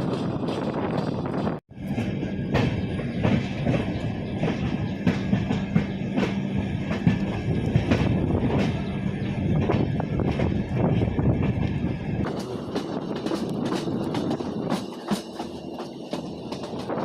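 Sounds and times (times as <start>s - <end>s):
train rumble: 0.0s - 17.0s
train wheels clacking on rails: 0.0s - 17.0s.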